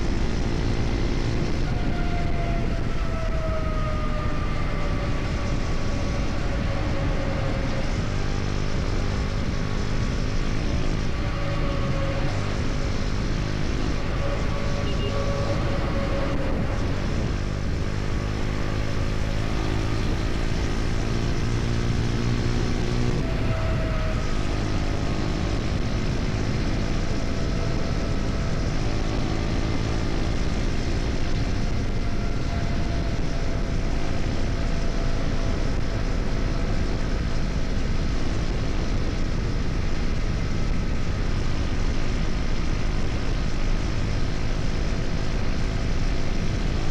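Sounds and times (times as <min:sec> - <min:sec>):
road noise: 0:00.0 - 0:46.9
motorcycle engine running: 0:03.8 - 0:46.9.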